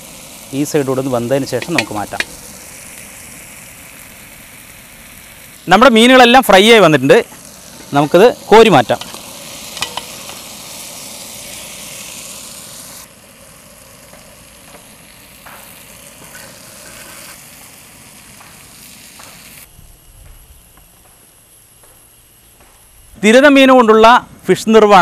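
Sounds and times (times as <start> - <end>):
fish sizzling in hot oil: 0.0 - 19.7, 20.6 - 24.1.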